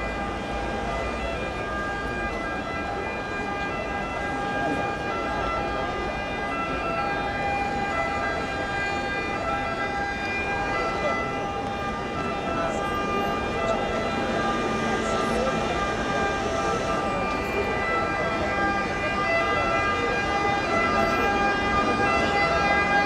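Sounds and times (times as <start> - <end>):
murmur of crowd talking: 0.0 - 23.0.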